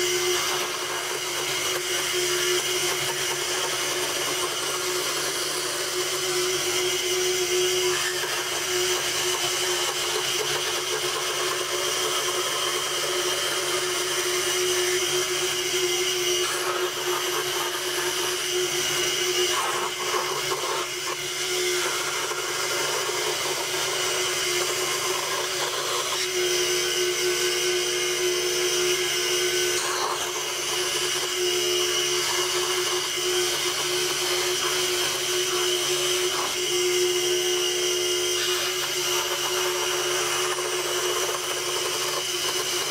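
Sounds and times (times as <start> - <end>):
scroll saw cutting plywood: 0.0 - 42.9.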